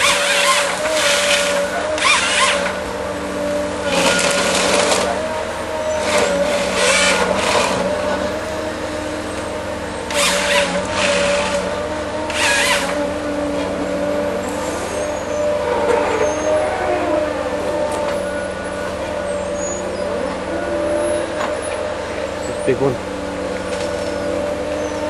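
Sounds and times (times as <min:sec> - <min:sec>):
harvester engine humming: 0:00.0 - 0:25.0
harvester head squealing: 0:00.0 - 0:25.0.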